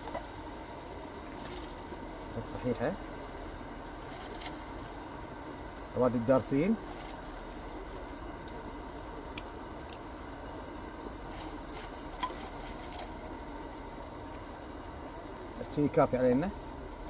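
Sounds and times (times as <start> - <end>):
pot steaming on a stove: 0.0 - 17.0.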